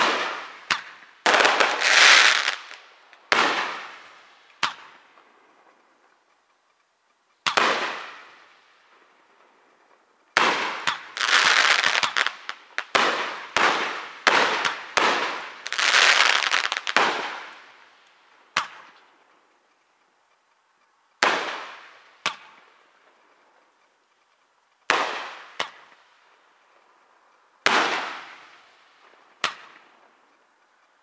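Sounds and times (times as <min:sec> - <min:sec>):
fireworks bursting: 0:00.0 - 0:06.2, 0:07.4 - 0:19.2, 0:21.2 - 0:23.7, 0:24.7 - 0:30.9.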